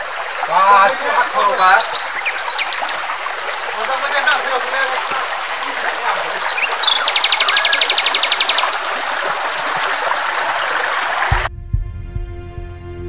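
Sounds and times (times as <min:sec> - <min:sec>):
forest stream running: 0:00.0 - 0:11.5.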